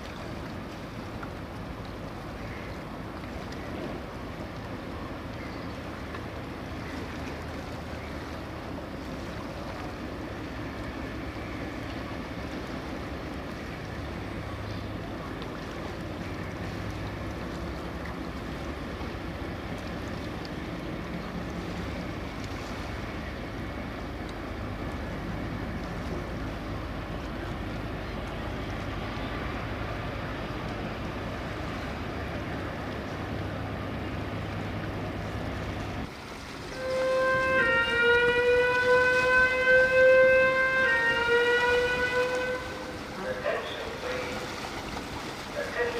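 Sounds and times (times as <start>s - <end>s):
boat engine humming: 0.0s - 45.9s
wind and water hiss: 0.0s - 45.9s.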